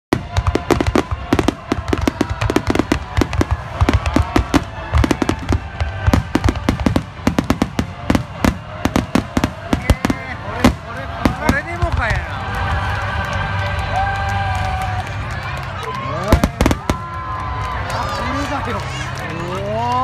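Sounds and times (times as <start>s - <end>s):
fireworks bangs and crackles: 0.1s - 15.4s, 16.1s - 19.3s.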